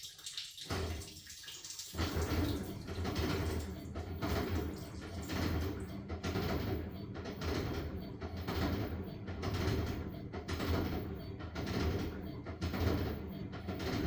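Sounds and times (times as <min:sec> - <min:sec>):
washing machine motor hum: 0:00.0 - 0:14.0
water sloshing in washing machine: 0:00.0 - 0:14.0.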